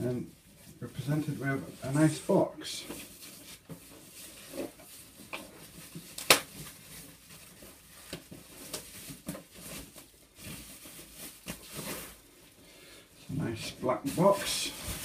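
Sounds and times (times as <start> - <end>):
packaging rustling and creaking: 0.2 - 12.3.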